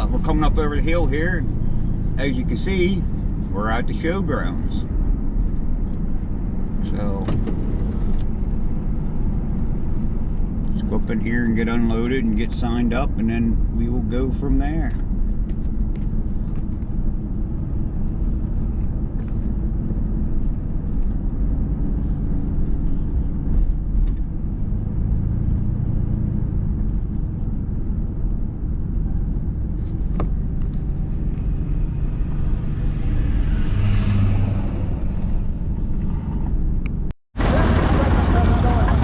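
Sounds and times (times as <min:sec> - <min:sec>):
vehicle driving slowly: 0:00.0 - 0:39.0.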